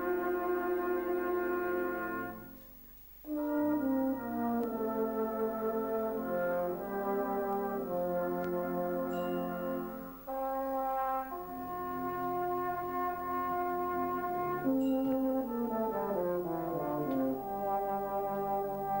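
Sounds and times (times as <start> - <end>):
euphonium solo with brass band: 0.0 - 19.0.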